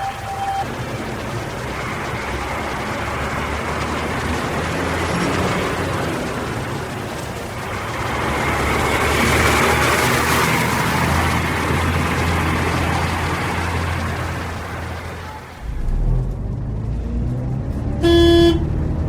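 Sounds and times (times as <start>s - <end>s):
bus diesel engine humming: 0.0s - 19.0s.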